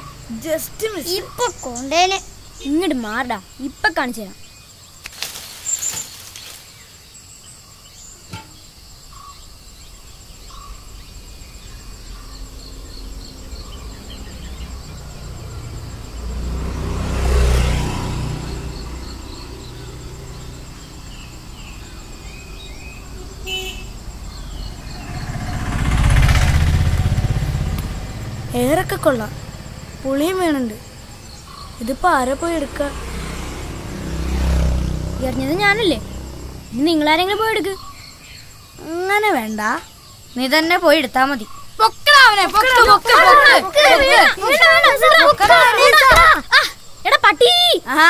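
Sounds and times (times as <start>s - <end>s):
insects chirring: 0.0s - 48.0s
vehicles passing by: 0.0s - 48.0s.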